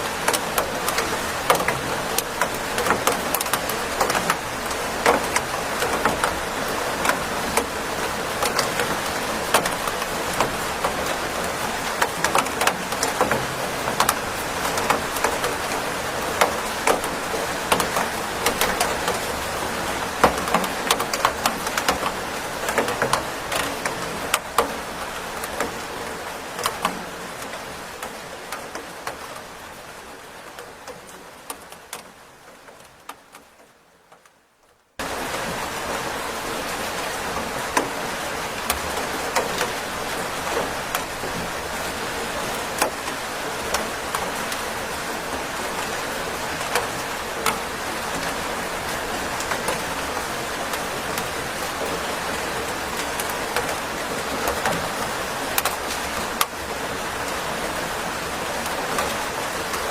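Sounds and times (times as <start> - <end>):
raindrops ticking: 0.0 - 59.9
steady rain: 0.0 - 59.9.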